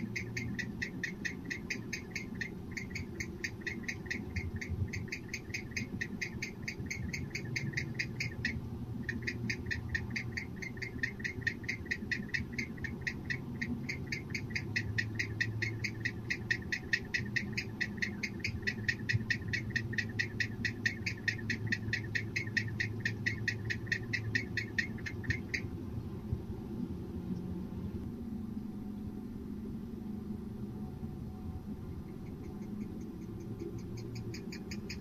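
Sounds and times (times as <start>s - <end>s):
owl twittering calls: 0.0s - 25.7s, 31.9s - 35.0s
steady low hum: 0.0s - 35.0s.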